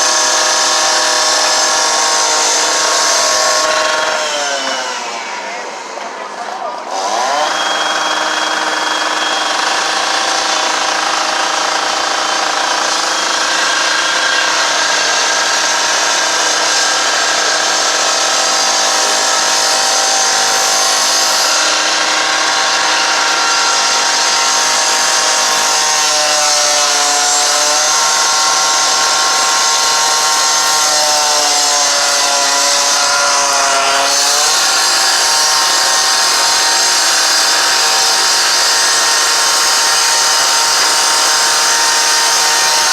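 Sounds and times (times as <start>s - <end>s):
small engine running at high revs: 0.0s - 42.9s.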